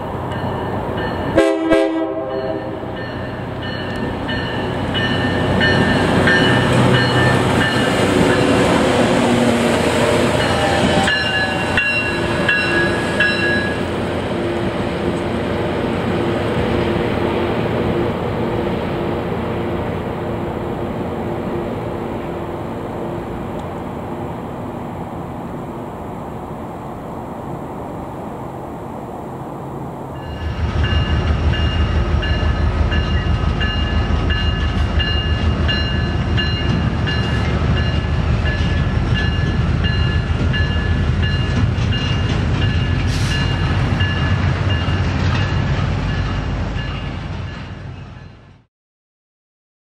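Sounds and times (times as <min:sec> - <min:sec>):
rail grinder diesel machinery: 0:00.0 - 0:48.7.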